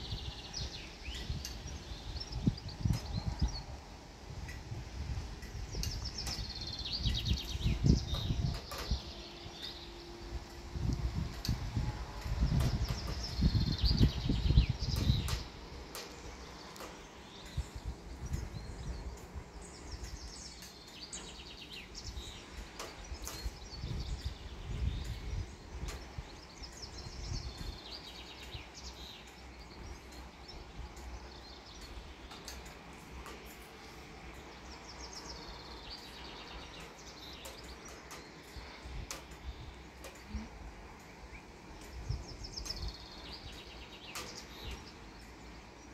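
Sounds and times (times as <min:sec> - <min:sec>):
songbirds singing trills: 0:00.0 - 0:45.9
wind gusting on microphone: 0:00.0 - 0:45.9.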